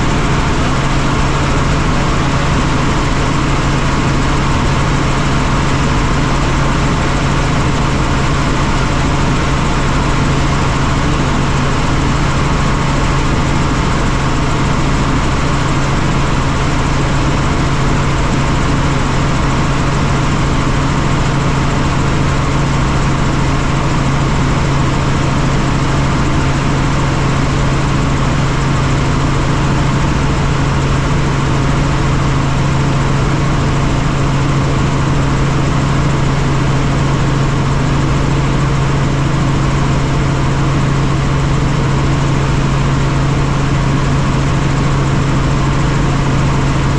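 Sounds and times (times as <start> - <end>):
helicopter engine and rotor: 0.0 - 46.9.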